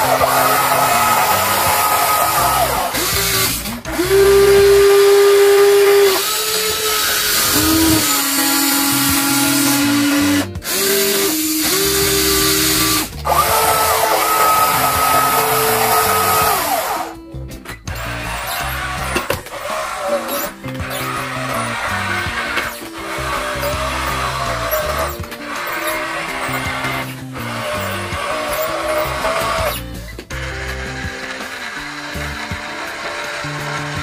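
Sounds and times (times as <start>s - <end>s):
toy gear motors whining: 0.0s - 34.0s.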